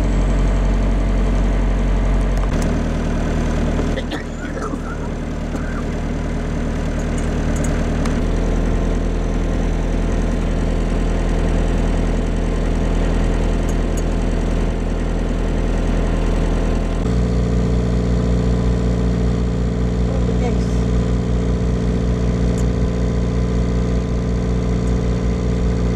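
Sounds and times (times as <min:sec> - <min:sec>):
boat engine running: 0:00.0 - 0:25.9.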